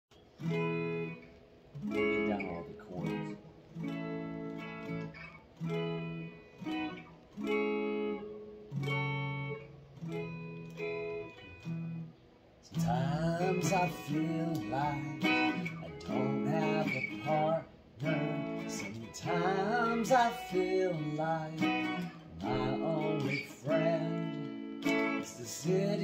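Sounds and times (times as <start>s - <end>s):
electric guitar strummed chords: 0.2s - 26.0s
guitar sliding notes: 0.3s - 26.0s.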